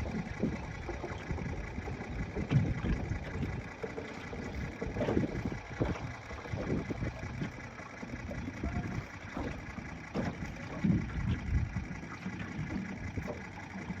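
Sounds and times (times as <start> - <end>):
wind buffeting microphone: 0.0 - 7.6, 8.2 - 14.0.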